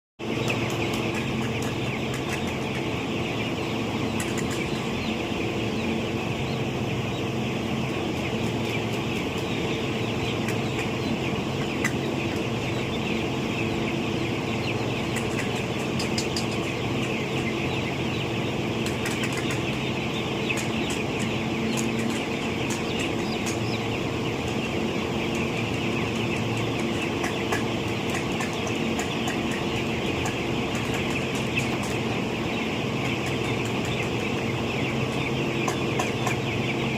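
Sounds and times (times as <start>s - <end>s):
chickens chirping and clucking: 0.2s - 36.9s
steady low hum: 0.2s - 36.9s.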